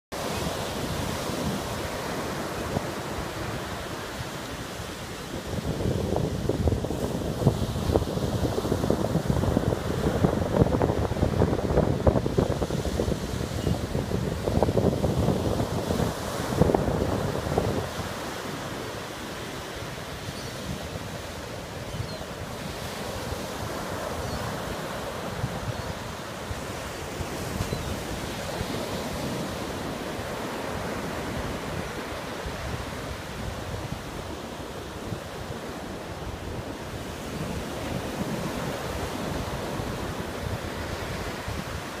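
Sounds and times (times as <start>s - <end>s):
small waves breaking on beach: 0.2s - 42.0s.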